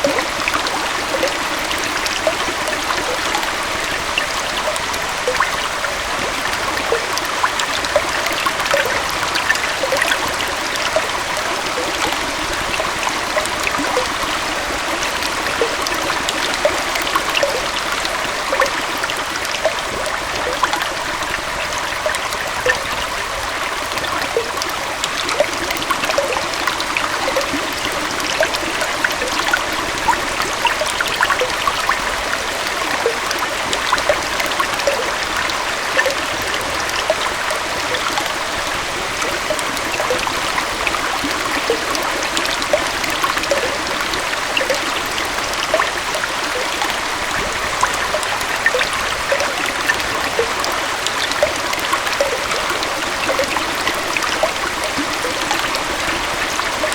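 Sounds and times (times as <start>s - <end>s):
waterfall water splashing: 0.0s - 56.9s.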